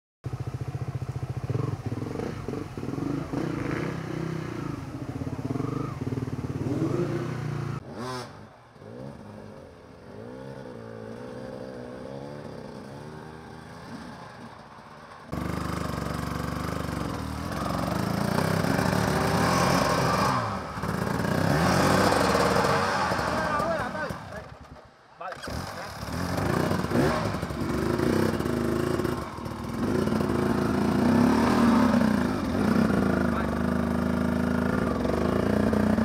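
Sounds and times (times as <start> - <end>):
dirt bike engines revving: 0.3 - 36.0.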